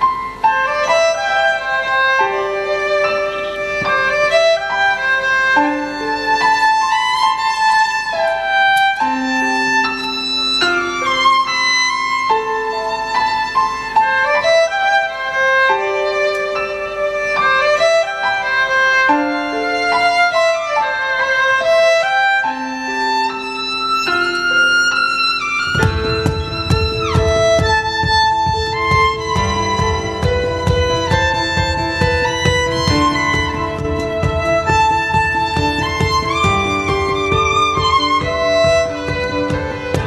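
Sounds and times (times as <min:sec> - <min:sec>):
solo violin melody: 0:00.0 - 0:40.0.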